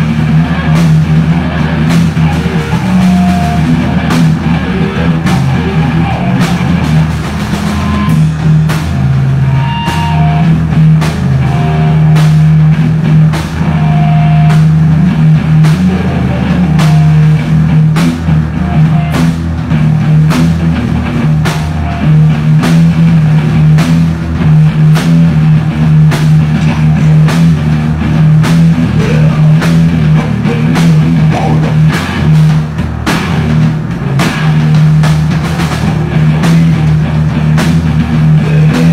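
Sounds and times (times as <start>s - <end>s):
drum kit with cymbal hits: 0.0s - 38.9s
electric guitars playing low riff: 0.0s - 38.9s.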